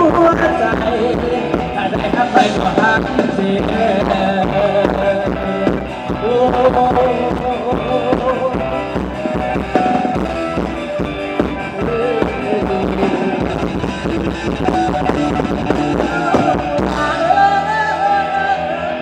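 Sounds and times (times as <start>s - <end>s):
person singing: 0.0s - 10.1s, 10.9s - 13.8s, 14.5s - 19.0s
live band playing dance music: 0.0s - 19.0s.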